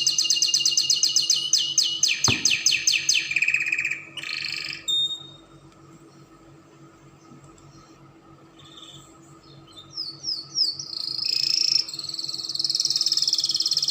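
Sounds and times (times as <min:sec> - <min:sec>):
canary singing trills: 0:00.0 - 0:06.3, 0:07.1 - 0:13.9.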